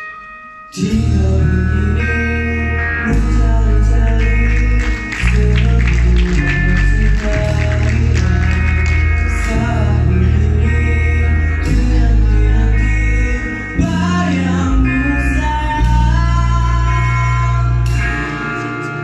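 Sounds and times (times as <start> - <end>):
drums: 0.0 - 19.0
electric guitars: 0.0 - 19.0
keyboard: 0.0 - 19.0
bass: 0.7 - 19.0
man singing: 0.7 - 19.0.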